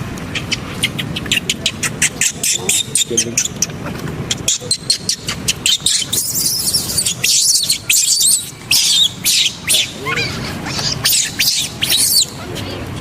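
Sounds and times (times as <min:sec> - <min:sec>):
baby monkey screaming: 0:00.3 - 0:03.7, 0:04.3 - 0:12.7.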